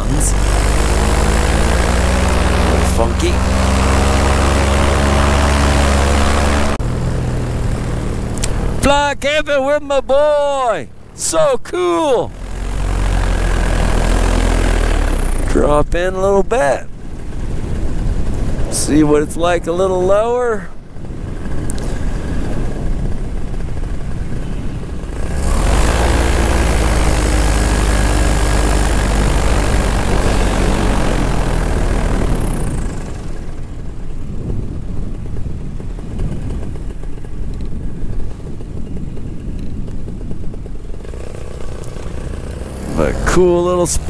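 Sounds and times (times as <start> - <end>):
paramotor engine and propeller: 0.0 - 44.0.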